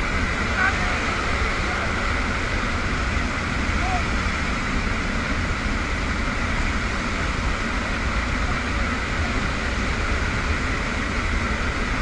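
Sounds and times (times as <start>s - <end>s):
aircraft engine rumble: 0.0s - 12.0s
rush of airflow: 0.0s - 12.0s.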